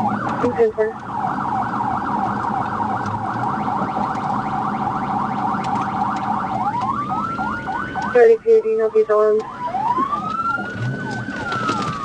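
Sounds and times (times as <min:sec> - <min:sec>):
police siren yelping: 0:00.0 - 0:12.0
siren wail tone: 0:00.0 - 0:12.0.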